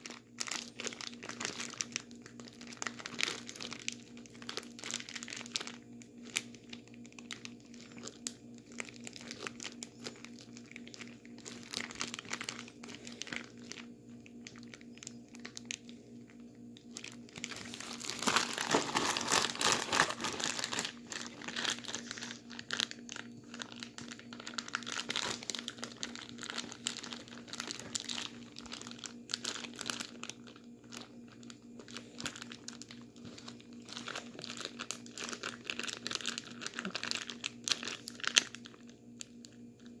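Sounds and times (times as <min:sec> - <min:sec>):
plastic bag of ice crinkling: 0:00.0 - 0:40.0
steady low hum: 0:00.0 - 0:40.0.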